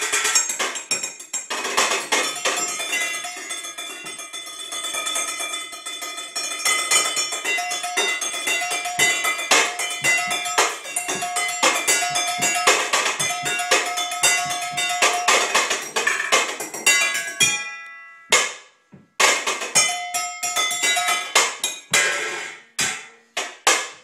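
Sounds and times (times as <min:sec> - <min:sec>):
knives drumming on pots and pans: 0:00.0 - 0:24.0.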